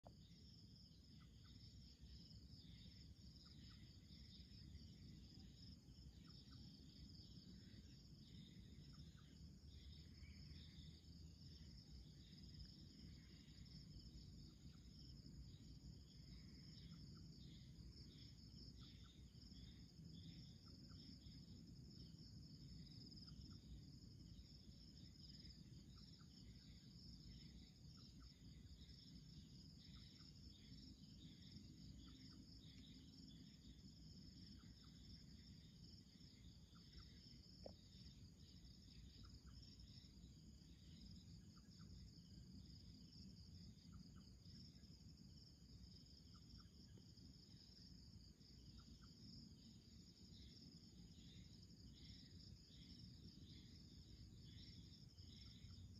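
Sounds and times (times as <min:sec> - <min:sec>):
crickets trilling: 0:00.0 - 0:55.9
faint insect chirps: 0:00.0 - 0:55.9.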